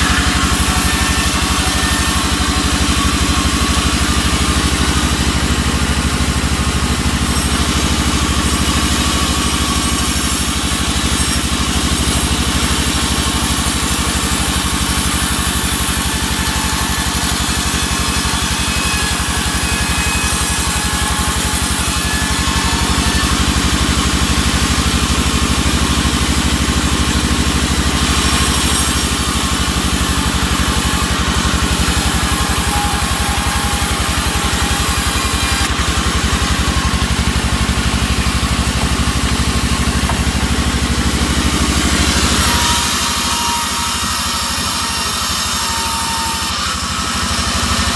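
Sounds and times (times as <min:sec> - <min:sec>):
band saw motor pulsing: 0:00.0 - 0:47.9
saw blade hissing through timber: 0:00.0 - 0:47.9.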